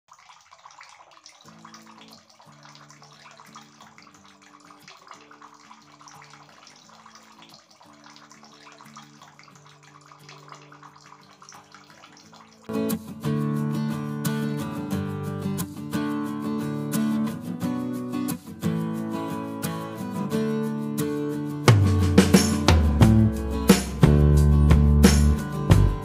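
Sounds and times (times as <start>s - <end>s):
fountain water trickling and splashing: 0.0s - 21.7s.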